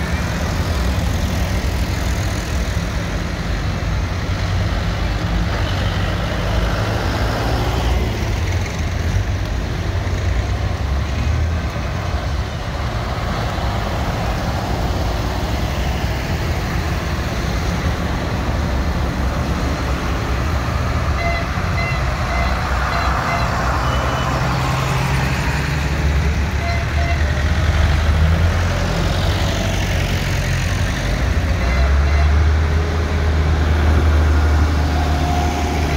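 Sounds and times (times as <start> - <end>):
tractor diesel engines passing: 0.0 - 35.9.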